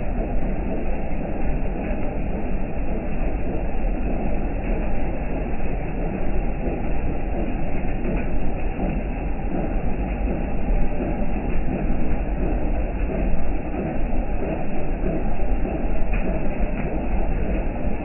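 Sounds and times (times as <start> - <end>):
heavy rain with low rumble: 0.0 - 18.0.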